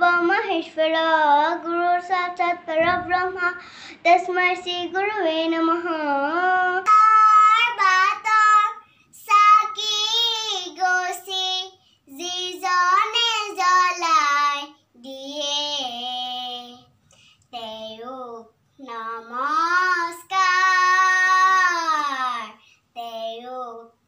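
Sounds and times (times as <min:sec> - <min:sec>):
girl singing unaccompanied: 0:00.0 - 0:24.0
second girl singing: 0:01.2 - 0:16.9, 0:17.5 - 0:24.0.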